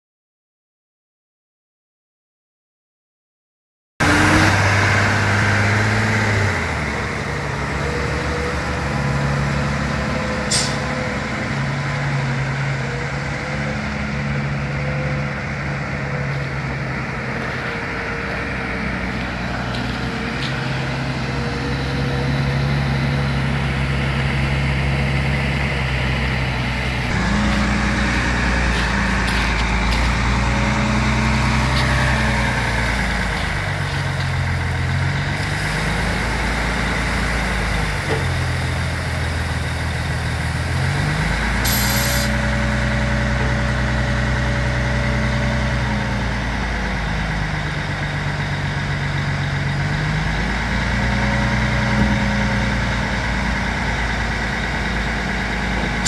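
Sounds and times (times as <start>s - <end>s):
diesel engine running: 4.0s - 56.0s.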